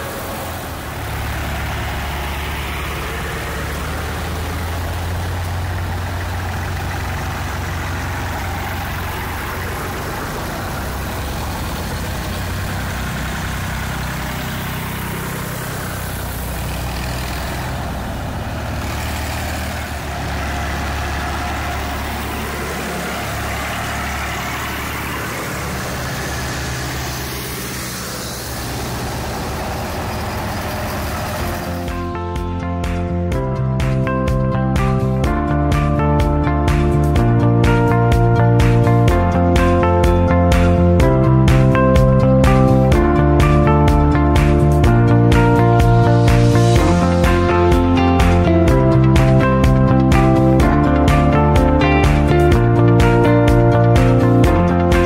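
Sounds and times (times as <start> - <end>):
tractor engines passing: 0.0 - 55.0.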